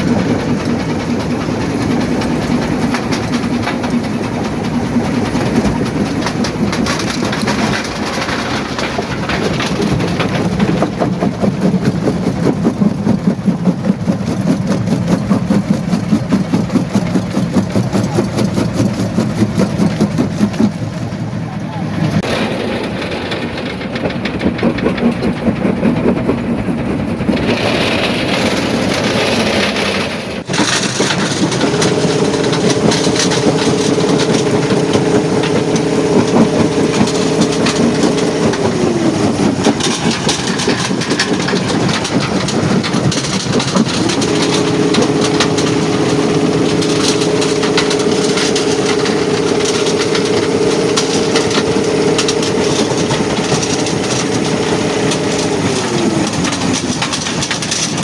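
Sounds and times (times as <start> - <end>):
jaw crusher crushing rock: 0.0 - 21.1, 22.1 - 58.0
steady engine drone: 0.0 - 58.0.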